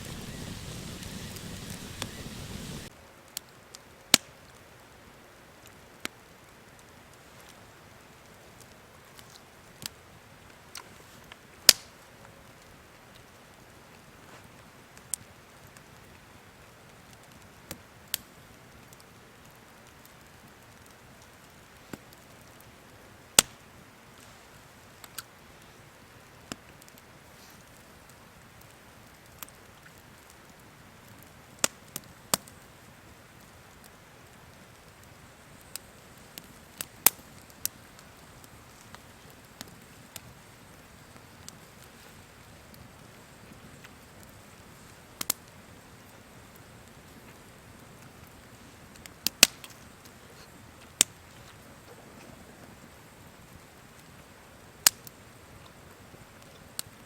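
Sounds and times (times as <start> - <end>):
fire popping: 0.0 - 3.5, 5.6 - 57.0
wood fire crackling: 0.0 - 57.0.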